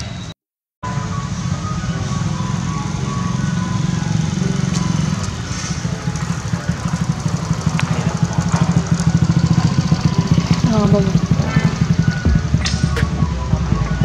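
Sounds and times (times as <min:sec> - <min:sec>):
small engine idling: 0:00.8 - 0:14.0.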